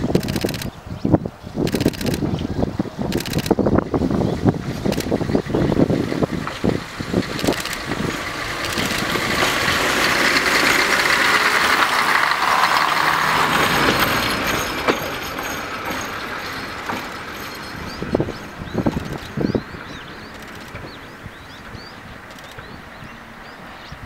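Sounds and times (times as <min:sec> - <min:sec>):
railbus diesel engine passing: 0:00.0 - 0:24.0.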